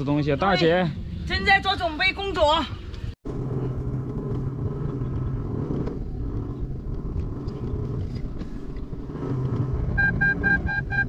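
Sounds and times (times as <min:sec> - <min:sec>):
vehicle engine and road drone: 0:00.0 - 0:11.0.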